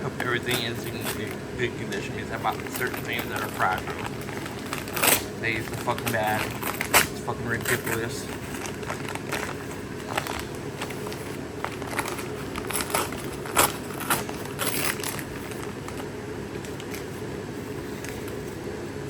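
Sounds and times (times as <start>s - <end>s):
low background hum: 0.0s - 19.0s
plastic packaging crinkling: 0.2s - 18.4s.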